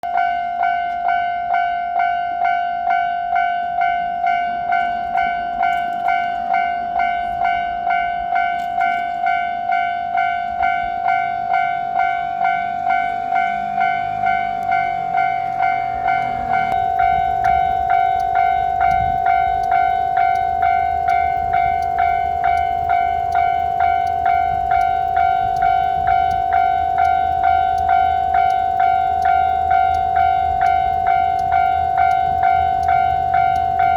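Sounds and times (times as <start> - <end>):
railroad crossing bell clanging: 0.0 - 33.9
diesel train passing: 0.1 - 33.9.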